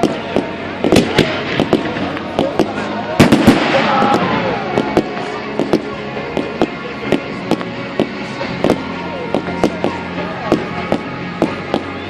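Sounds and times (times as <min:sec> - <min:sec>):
fireworks bangs: 0:00.0 - 0:12.0
music playing: 0:00.0 - 0:12.0.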